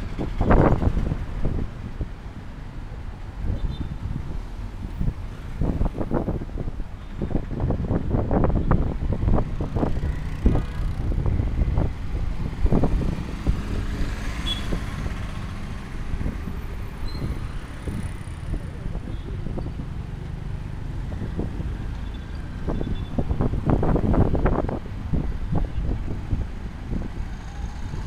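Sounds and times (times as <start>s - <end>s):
vehicles passing: 0.0s - 28.0s
wind buffeting microphone: 0.0s - 28.0s.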